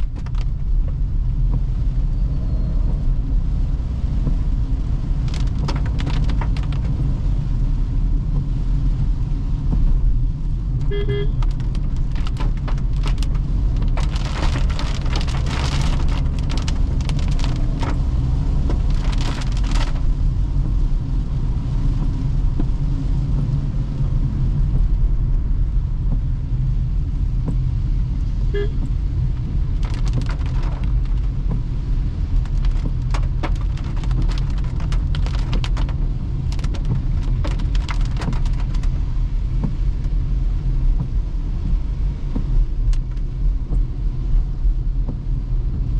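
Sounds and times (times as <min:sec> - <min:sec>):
rain spattering on car: 0:00.0 - 0:45.9
road and tyre rumble: 0:00.0 - 0:45.9.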